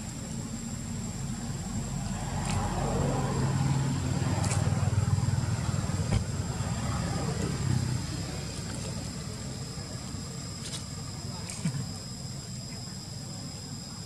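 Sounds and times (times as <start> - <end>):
vehicle engine humming: 0.0 - 12.3
steady high-pitched whine: 0.0 - 14.0.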